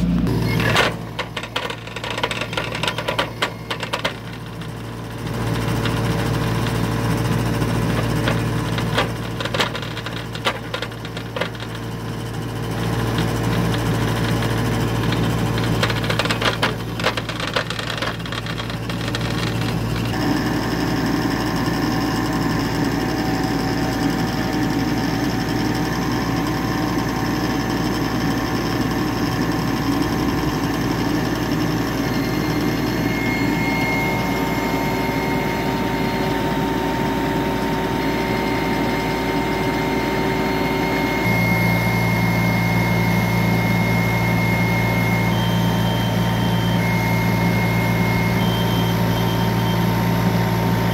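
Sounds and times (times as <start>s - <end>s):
excavator diesel engine under load: 0.0s - 50.9s.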